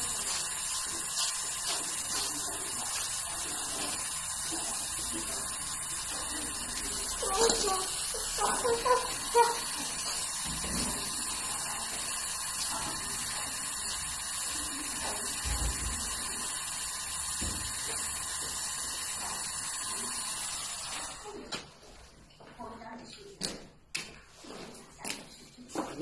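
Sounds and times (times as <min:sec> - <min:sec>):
gas torch flame hissing: 0:00.0 - 0:21.5.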